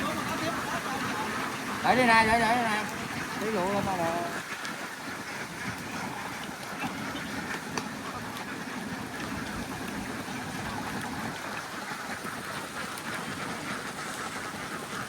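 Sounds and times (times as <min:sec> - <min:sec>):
flock of ducks quacking: 0:00.0 - 0:15.0.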